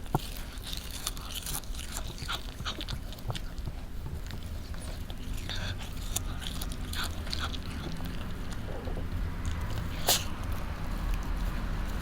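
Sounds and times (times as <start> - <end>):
cat crunching grass: 0.0 - 12.0.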